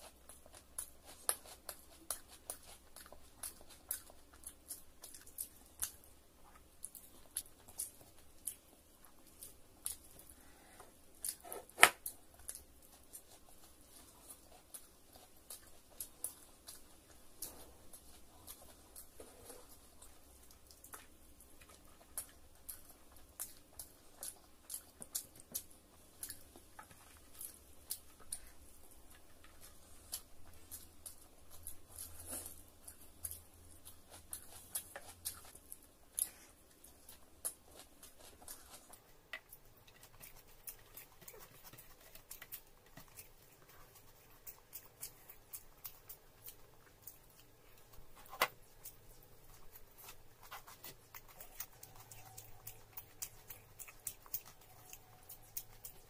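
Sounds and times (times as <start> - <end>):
person chewing and smacking food: 0.0 - 56.0.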